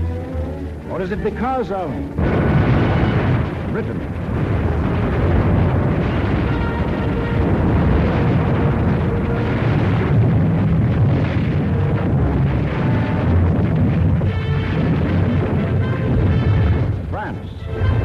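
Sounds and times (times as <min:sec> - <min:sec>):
rumble of bombing and explosions: 0:00.0 - 0:18.0.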